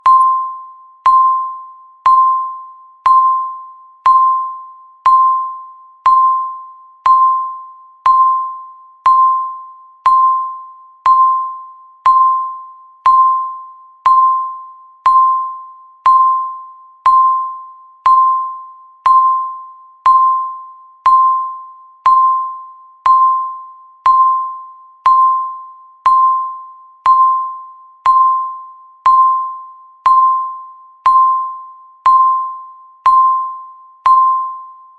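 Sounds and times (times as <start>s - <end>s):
timer electronic ding: 0.0s - 34.9s.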